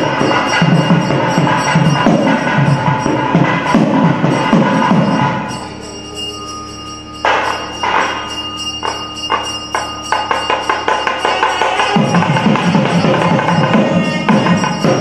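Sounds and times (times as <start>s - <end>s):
temple bell ringing: 0.0s - 15.0s.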